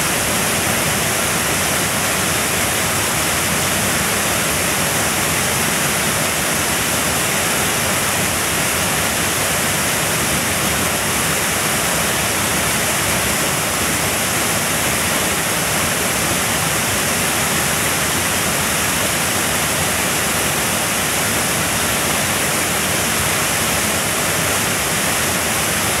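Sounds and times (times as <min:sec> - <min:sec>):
waterfall splashing into pool: 0:00.0 - 0:26.0.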